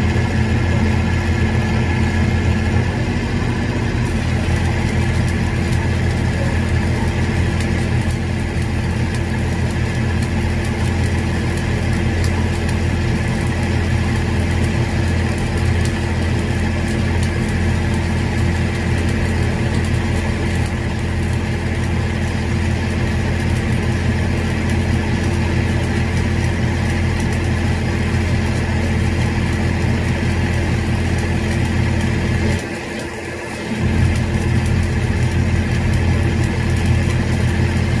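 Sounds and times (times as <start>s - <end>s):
engine humming: 0.0s - 38.0s
welding arc sizzling: 0.0s - 38.0s.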